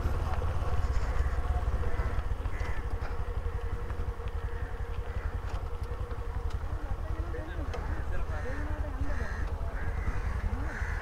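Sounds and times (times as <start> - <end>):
motorcycle rumbling on gravel: 0.0 - 11.0.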